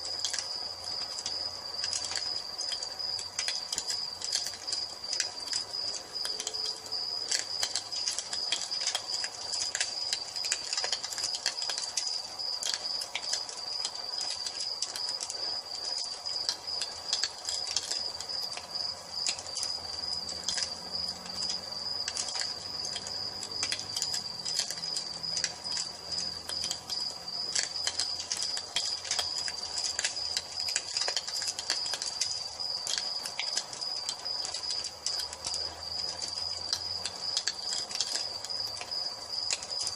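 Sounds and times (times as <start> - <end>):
crickets trilling: 0.0 - 39.9
wood fire crackling and popping: 0.0 - 39.9.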